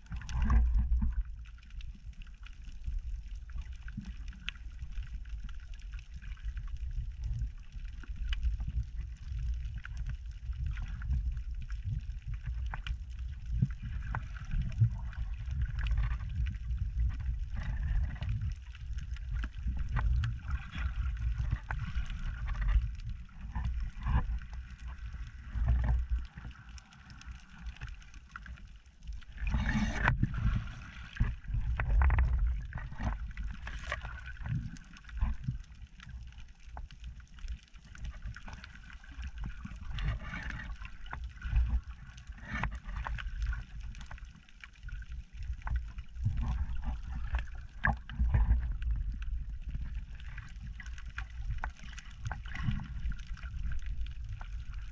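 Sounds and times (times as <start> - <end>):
small sharp clicks and crackles: 0.0 - 54.9
underwater rumbling surge: 0.0 - 54.9.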